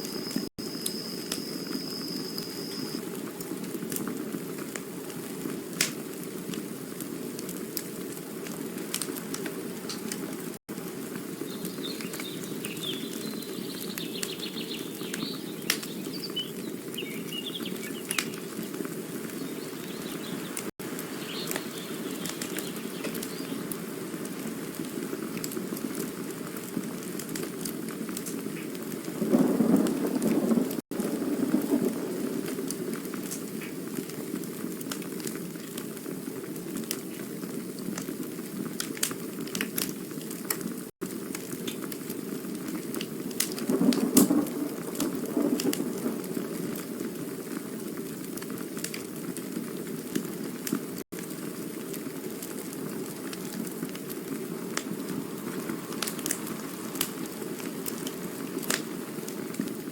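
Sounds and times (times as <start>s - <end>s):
campfire crackling and hissing: 0.0s - 59.9s.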